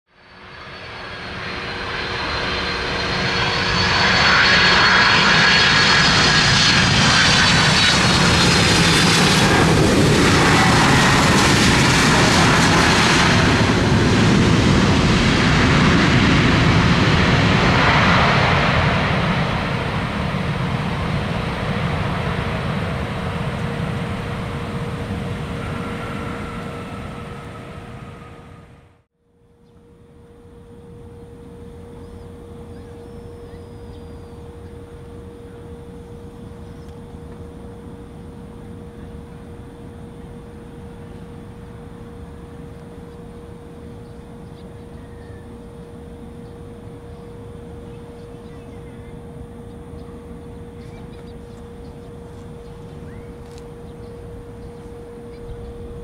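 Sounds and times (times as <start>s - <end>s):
jet engines roaring: 0.2s - 29.0s, 30.6s - 56.0s.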